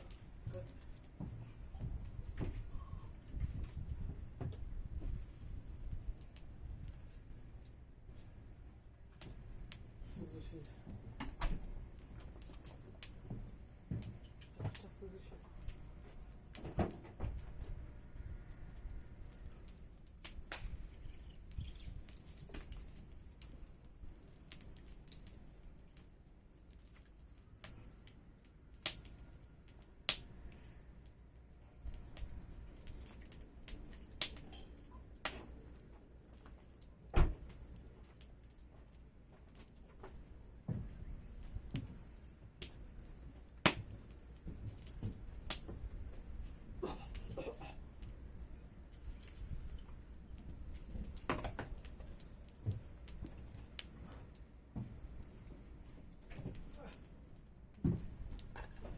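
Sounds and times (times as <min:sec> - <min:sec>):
low rumble of fire: 0:00.0 - 0:58.9
wood fire crackling: 0:00.0 - 0:58.9.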